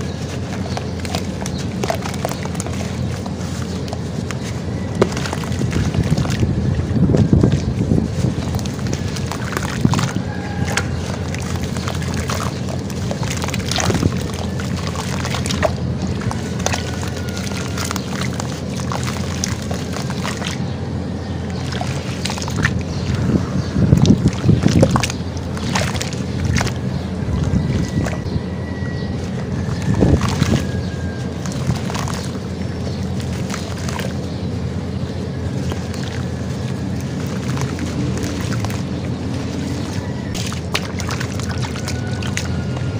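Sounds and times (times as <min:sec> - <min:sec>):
hands sloshing through water: 0:00.0 - 0:42.9
low rumble: 0:00.0 - 0:42.9
small sharp splashes and crackles: 0:00.0 - 0:42.9.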